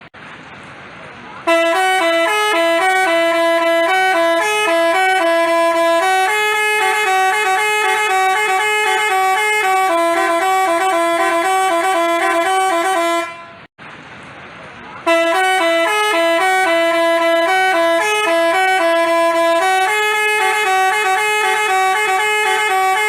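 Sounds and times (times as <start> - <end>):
bus horn playing a tune: 1.4 - 13.7, 15.0 - 23.0.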